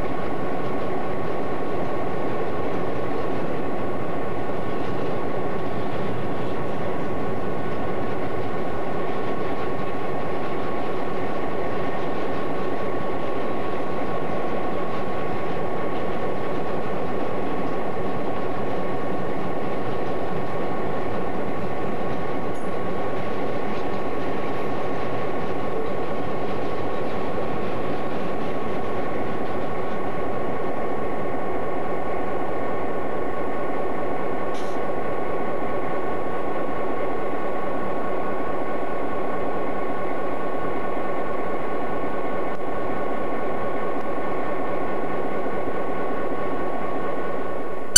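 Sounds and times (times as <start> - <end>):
diesel locomotive idling: 0.0 - 47.9.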